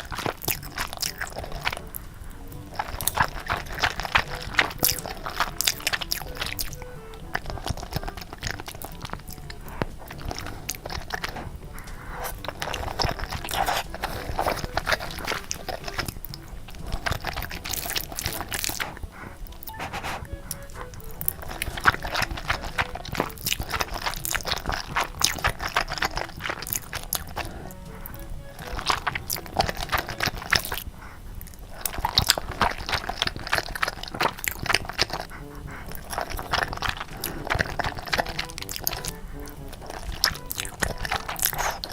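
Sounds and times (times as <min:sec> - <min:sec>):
person chewing noodles: 0:00.0 - 0:41.9
wet mouth clicks: 0:00.0 - 0:41.9.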